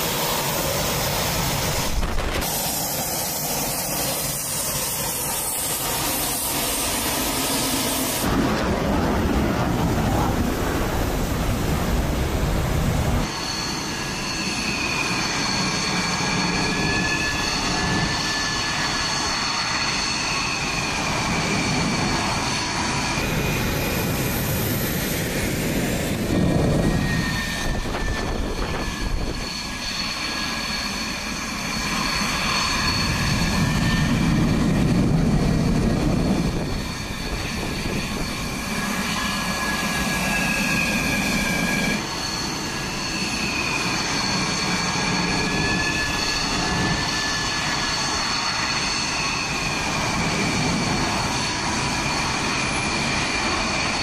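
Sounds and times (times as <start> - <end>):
jet engine roar: 0.0 - 54.0
jet engine whine: 0.0 - 54.0.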